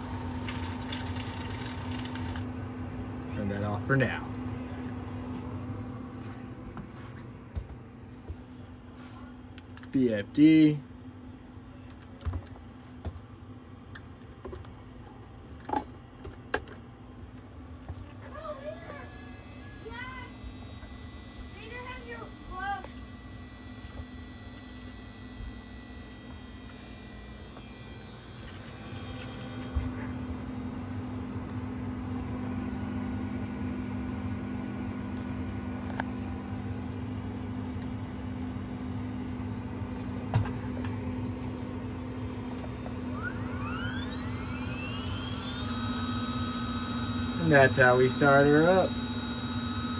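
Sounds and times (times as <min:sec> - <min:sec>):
low hum of machine fans: 0:00.0 - 0:49.9.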